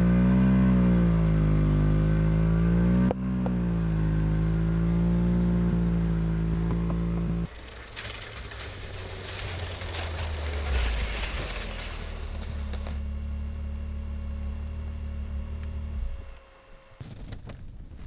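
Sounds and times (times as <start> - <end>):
snowmobile engine running: 0.0 - 17.5.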